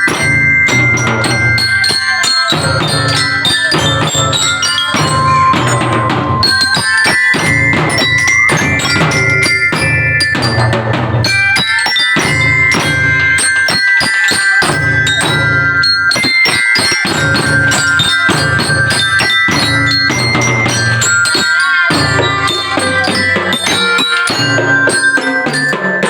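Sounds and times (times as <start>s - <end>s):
bell-lyre notes: 0.0s - 26.0s
drums beating: 0.0s - 26.0s
held melody tones: 0.0s - 26.0s.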